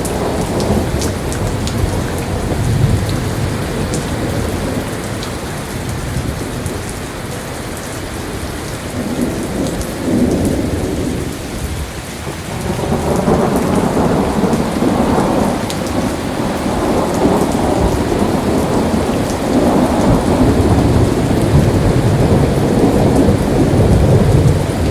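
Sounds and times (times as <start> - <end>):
heavy rain rushing: 0.0 - 24.9.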